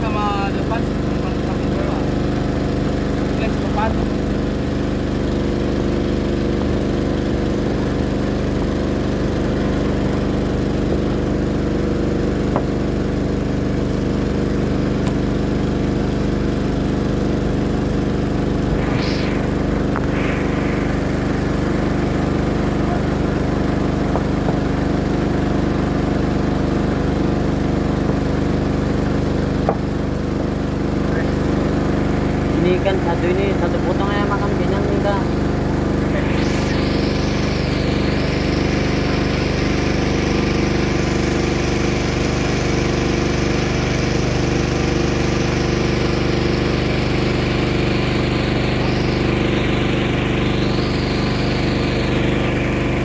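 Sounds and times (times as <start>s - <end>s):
small engine humming: 0.0s - 53.0s.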